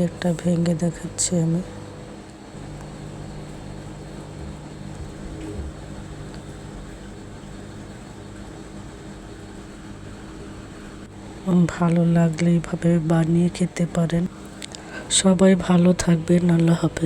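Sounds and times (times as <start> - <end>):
low droning hum: 0.0 - 17.0.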